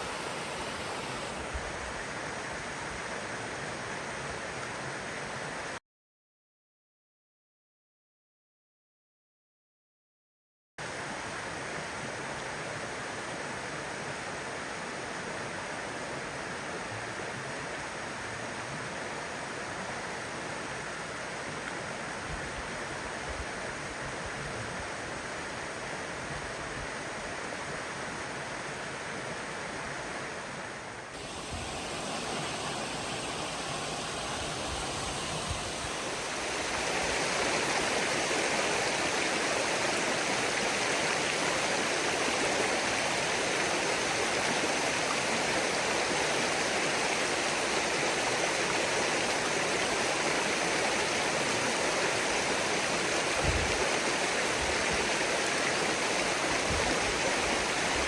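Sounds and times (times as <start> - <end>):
mountain stream rushing: 0.0 - 5.8, 10.8 - 58.0.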